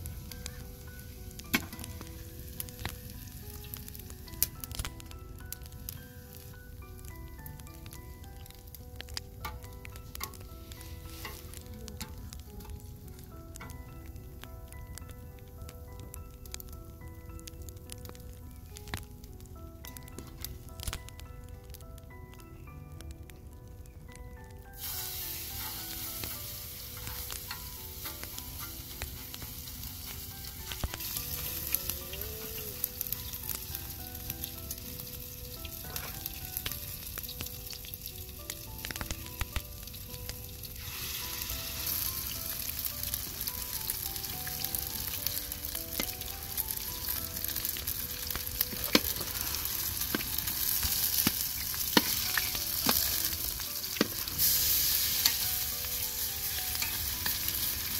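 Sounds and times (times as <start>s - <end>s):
patties sizzling in hot oil: 0.0s - 57.9s.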